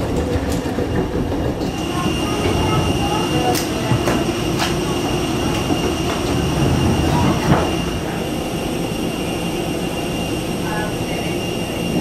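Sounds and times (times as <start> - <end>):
airliner machinery rumble: 0.0 - 12.0.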